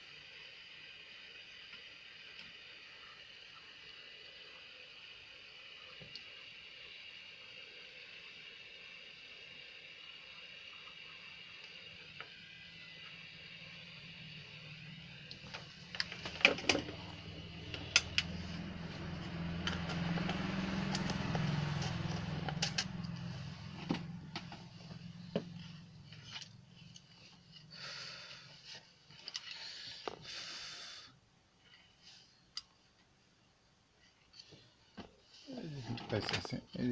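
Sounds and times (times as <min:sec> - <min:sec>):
hot-air gun fan blowing: 0:00.0 - 0:31.2.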